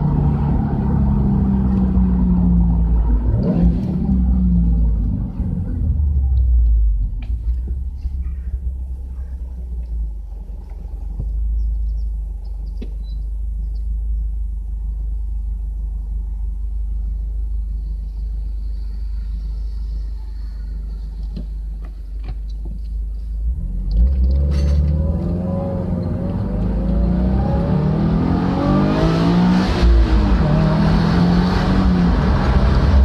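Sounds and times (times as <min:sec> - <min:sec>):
car engine rumbling: 0:00.0 - 0:33.0.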